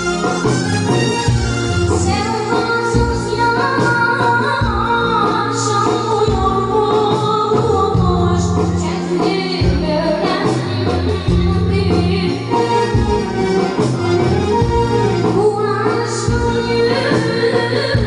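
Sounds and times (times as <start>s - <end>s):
instrumental backing with bass: 0.0s - 18.0s.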